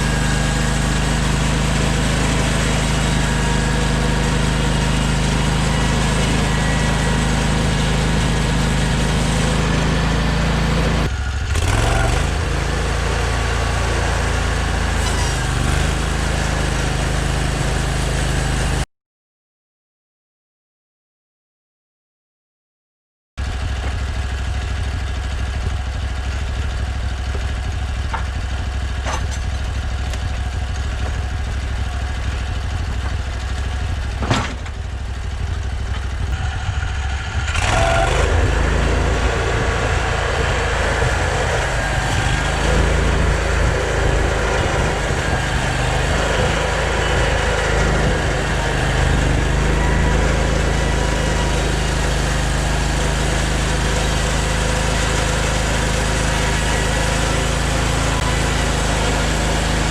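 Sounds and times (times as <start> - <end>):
engine running: 0.0 - 18.8, 23.4 - 59.9.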